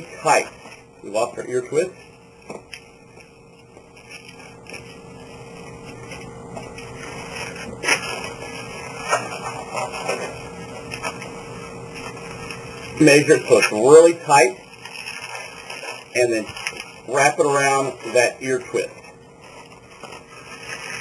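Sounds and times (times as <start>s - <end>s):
balloons rubbing together: 0.0s - 21.0s.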